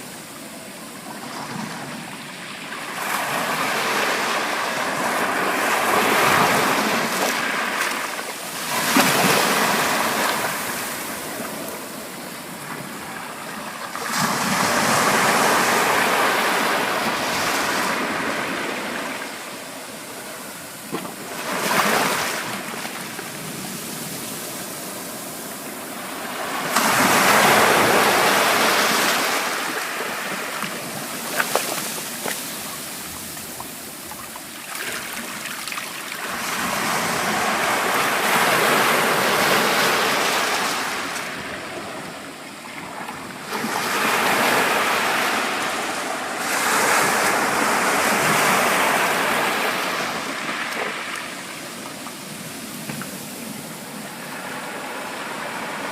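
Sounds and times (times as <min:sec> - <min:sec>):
waves breaking: 0:00.0 - 0:55.9.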